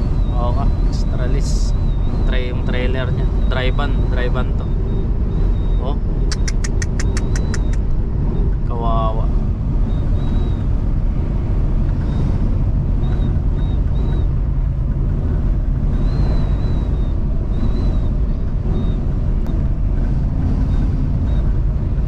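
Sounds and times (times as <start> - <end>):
high wind whistle: 0.0 - 22.0
truck engine and tyre rumble: 0.0 - 22.0
wind buffeting: 0.0 - 22.0.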